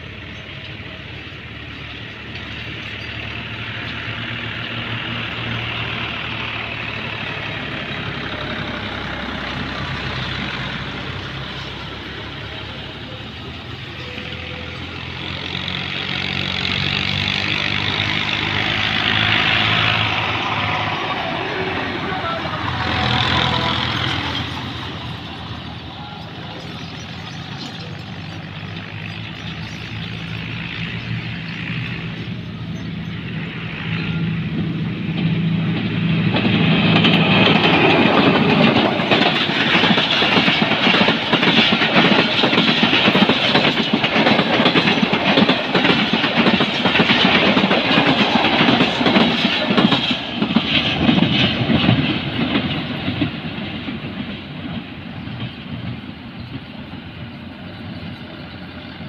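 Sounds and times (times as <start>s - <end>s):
rushing noise: 4.4s - 52.8s.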